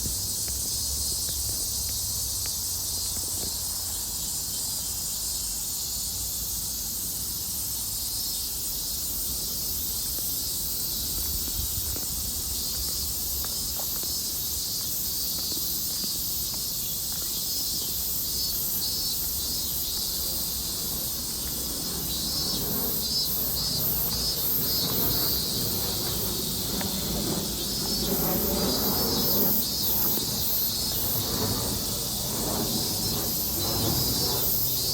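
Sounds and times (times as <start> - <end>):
cicadas buzzing: 0.0 - 34.9
loud pulsing insect call: 0.0 - 34.9.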